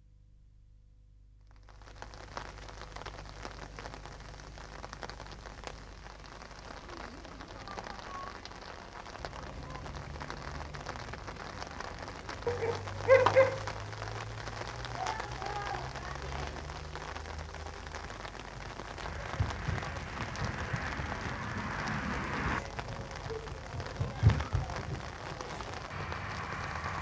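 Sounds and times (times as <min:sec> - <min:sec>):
crackling outdoor noise: 0:00.0 - 0:27.0.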